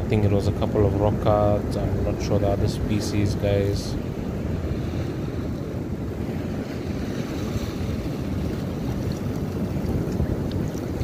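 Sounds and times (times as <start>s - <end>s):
waves washing on shore: 0.0s - 11.0s
wind buffeting microphone: 0.0s - 11.0s.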